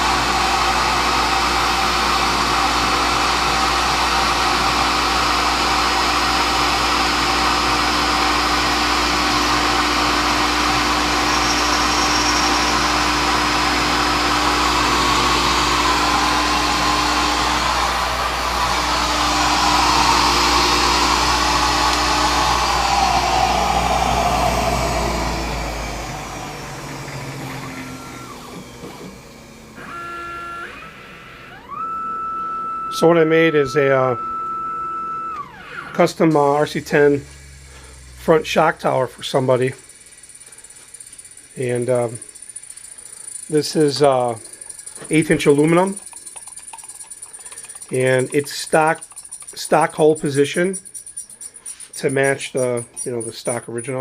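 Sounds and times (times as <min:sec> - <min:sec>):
milling machine whirring: 0:00.0 - 0:54.0.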